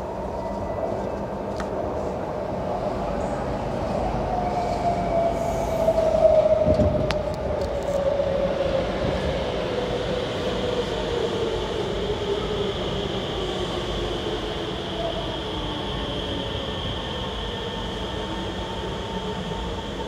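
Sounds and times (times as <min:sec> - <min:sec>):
metro train motor whine: 0:00.0 - 0:20.0
wheels rumbling on rail: 0:00.0 - 0:20.0.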